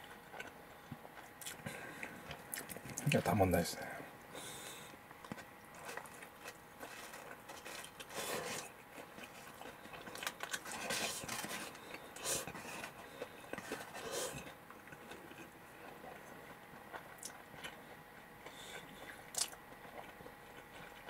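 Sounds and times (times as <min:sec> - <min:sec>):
person chewing: 0:00.0 - 0:03.2, 0:04.4 - 0:21.0.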